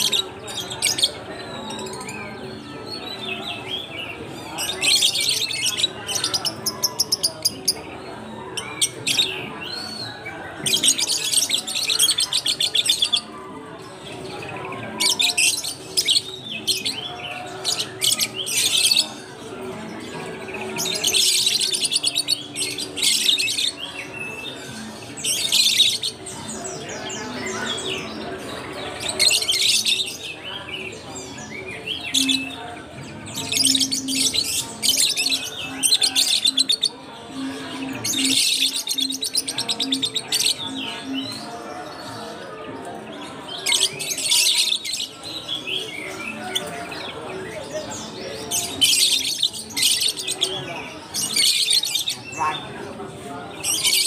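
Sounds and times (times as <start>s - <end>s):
caged birds chirping: 0.0s - 54.0s.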